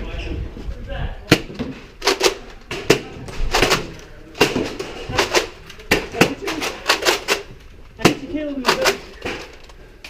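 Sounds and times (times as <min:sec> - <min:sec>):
foam balls smacking into walls: 0:01.2 - 0:09.6.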